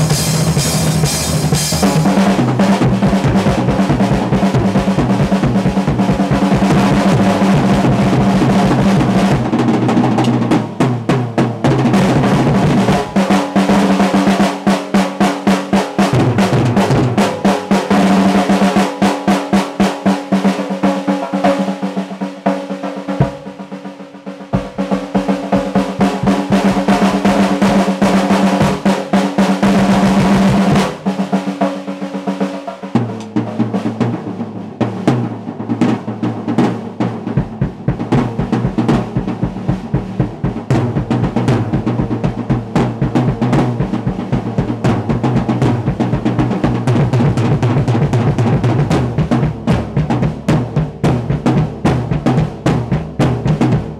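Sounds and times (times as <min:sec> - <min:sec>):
rapid bass drum strokes: 0:00.0 - 0:53.9
snare and tom rolls: 0:00.0 - 0:53.9.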